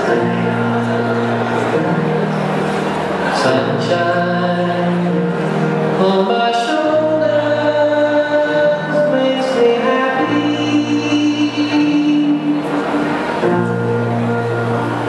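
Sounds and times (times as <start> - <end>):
skating program music: 0.0 - 15.0.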